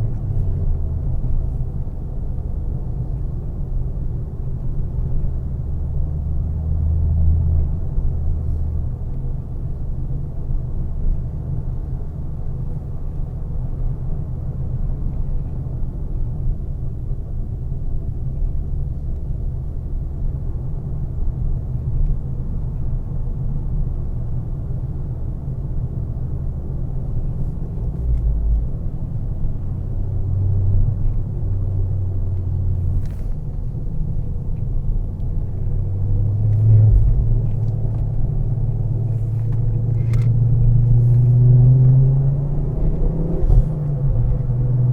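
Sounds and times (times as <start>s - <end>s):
car engine cruising: 0.0s - 44.9s
road rumble: 0.0s - 44.9s.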